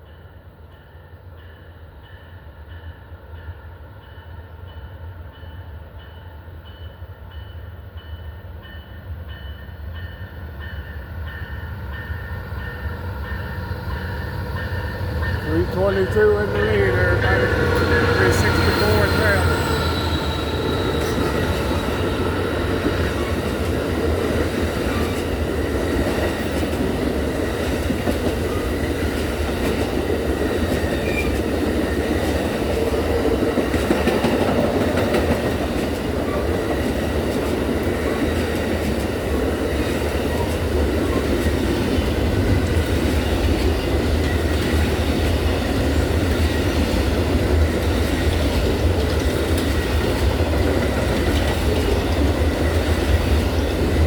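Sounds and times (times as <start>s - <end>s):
train rolling past: 0.0s - 54.0s.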